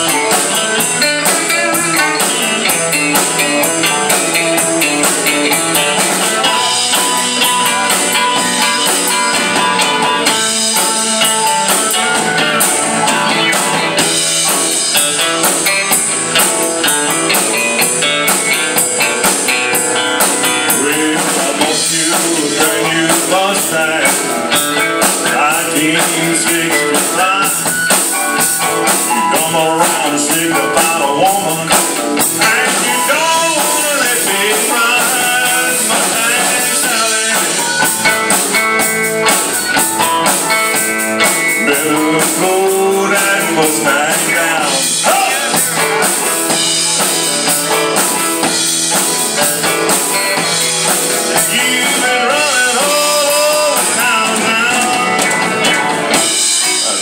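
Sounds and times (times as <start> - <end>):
person singing: 0.0 - 15.8, 17.3 - 38.6, 40.0 - 48.4, 49.1 - 57.0
bass: 0.0 - 57.0
drum kit: 0.0 - 57.0
electric guitar: 0.0 - 57.0
keyboard: 0.0 - 57.0.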